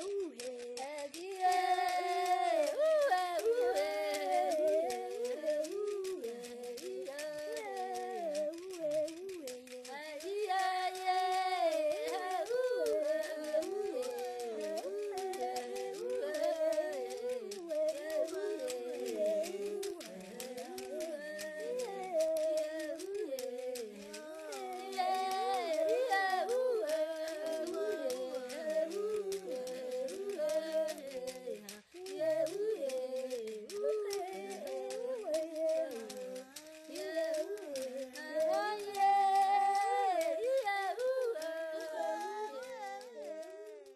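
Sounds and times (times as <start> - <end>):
voices singing in harmony: 0.0 - 43.9.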